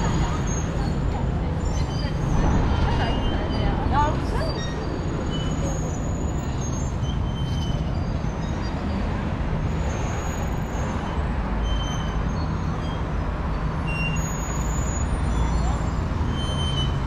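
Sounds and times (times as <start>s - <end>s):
vehicles passing with engine hum: 0.0s - 17.0s.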